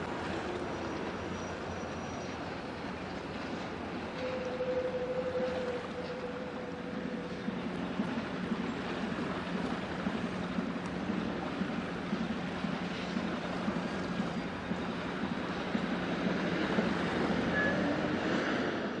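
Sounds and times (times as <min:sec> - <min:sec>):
ship engine humming: 0:00.0 - 0:19.0.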